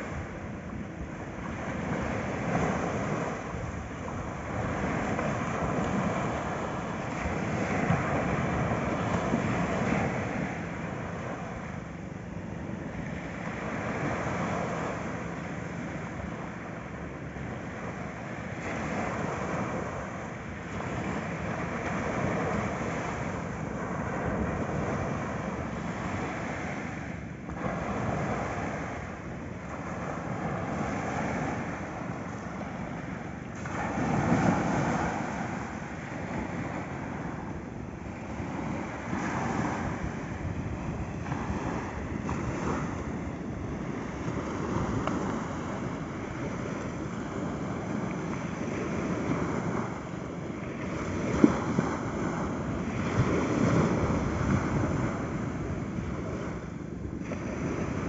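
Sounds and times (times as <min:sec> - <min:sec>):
sea waves breaking on beach: 0:00.0 - 0:58.0
wind on microphone: 0:00.0 - 0:58.0.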